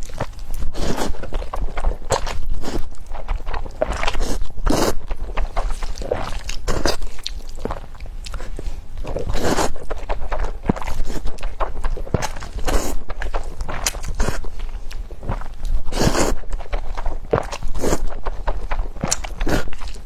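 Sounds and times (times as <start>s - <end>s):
noodle slurping: 0.0s - 20.0s
wet chewing: 0.0s - 20.0s.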